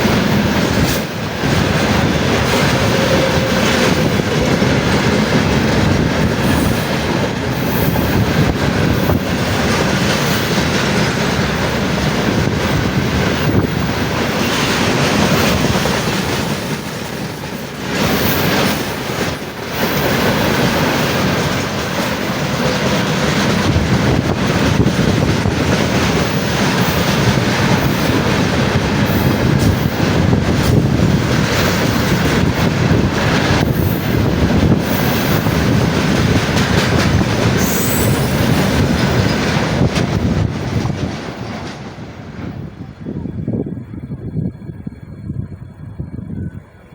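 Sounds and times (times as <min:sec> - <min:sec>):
train wheels rushing over rails: 0:00.0 - 0:46.9.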